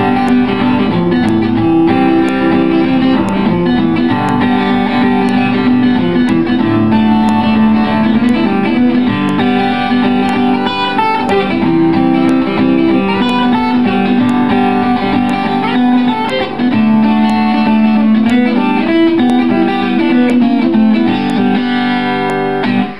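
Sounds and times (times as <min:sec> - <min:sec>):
solo acoustic guitar: 0:00.0 - 0:22.9.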